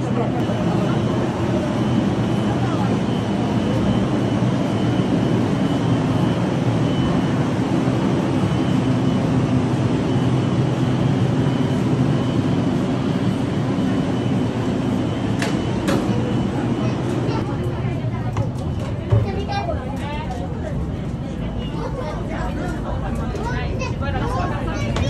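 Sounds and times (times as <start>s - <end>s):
tram equipment humming: 0.0s - 25.0s.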